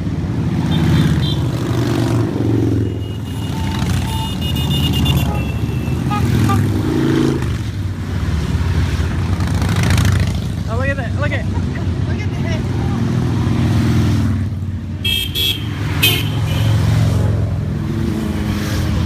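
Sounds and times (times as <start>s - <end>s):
motorcycles passing by: 0.0s - 19.0s.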